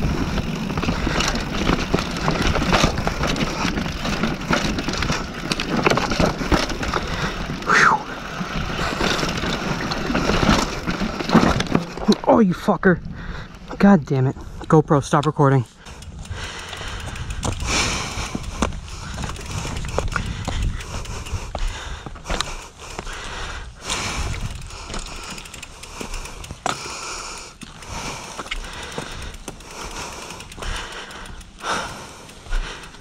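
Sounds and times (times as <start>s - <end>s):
heavy breathing: 0.0s - 9.4s, 13.0s - 13.7s, 15.7s - 33.0s
bike rubbing and clicking: 0.0s - 12.4s, 14.4s - 33.0s.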